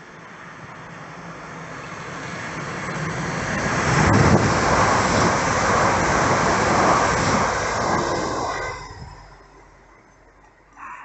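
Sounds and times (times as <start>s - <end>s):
train rushing past: 0.0s - 10.8s.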